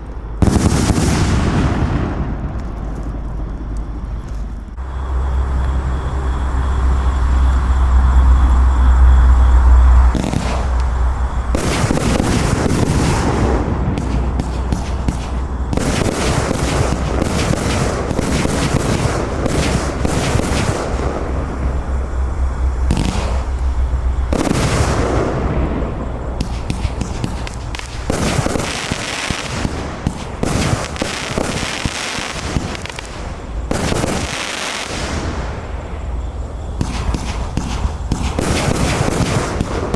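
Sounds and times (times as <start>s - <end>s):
fireworks shots bursting: 0.1s - 4.1s, 9.7s - 39.9s.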